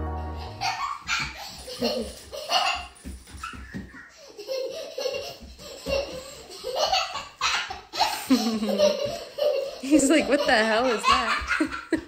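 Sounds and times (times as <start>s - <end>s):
young child laughing: 0.4s - 12.0s.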